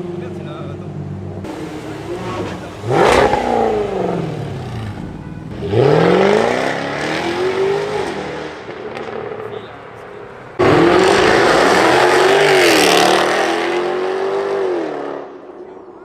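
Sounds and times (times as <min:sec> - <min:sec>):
car engine accelerating hard: 0:01.5 - 0:09.6, 0:10.5 - 0:15.5.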